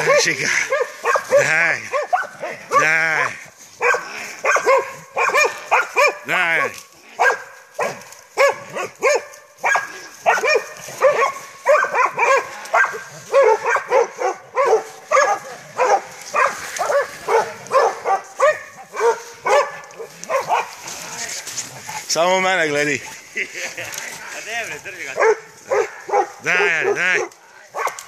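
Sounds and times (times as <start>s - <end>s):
dogs barking: 0.0s - 28.0s.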